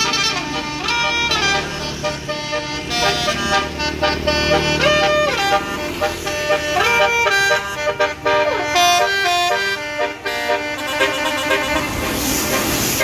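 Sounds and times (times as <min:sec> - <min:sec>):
multi-tone bus air horn tune: 0:00.0 - 0:13.0.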